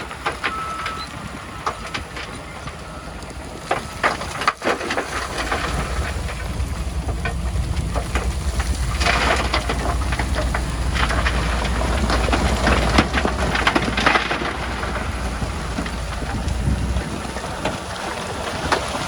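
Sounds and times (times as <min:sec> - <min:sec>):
diesel engine low rumble: 0:00.0 - 0:19.0
soil and stones crunching: 0:00.0 - 0:19.0.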